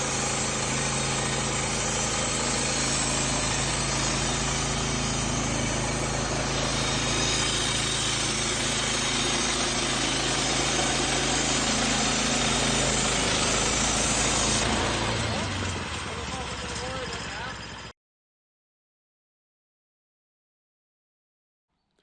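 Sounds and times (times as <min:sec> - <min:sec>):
sawmill engine running: 0:00.0 - 0:17.9.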